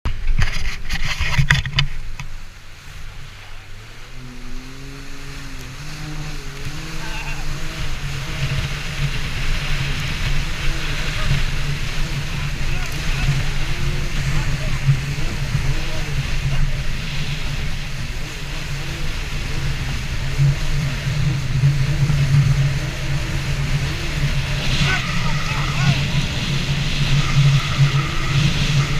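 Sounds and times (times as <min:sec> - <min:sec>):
jet ski engine running: 0:00.1 - 0:28.9.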